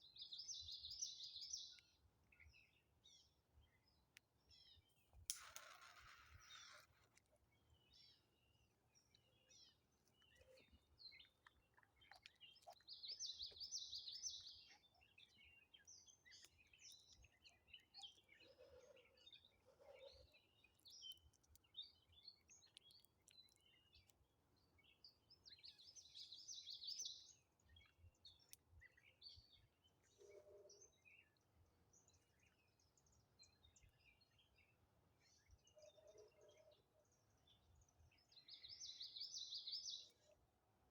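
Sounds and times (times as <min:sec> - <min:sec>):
faint birdsong chirps: 0:00.0 - 0:40.9.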